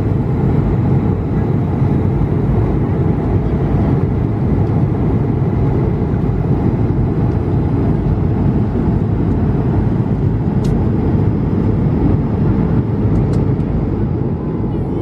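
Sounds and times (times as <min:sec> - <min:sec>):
aircraft cabin roar: 0:00.0 - 0:15.0.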